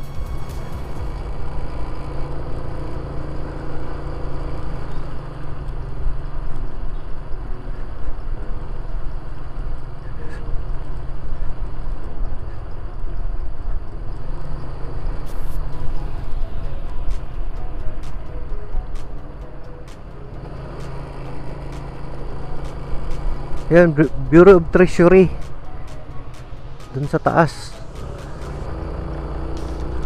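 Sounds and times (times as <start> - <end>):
small motorcycle engine running: 0.0 - 25.6, 27.2 - 30.0
wind and road noise: 0.0 - 30.0.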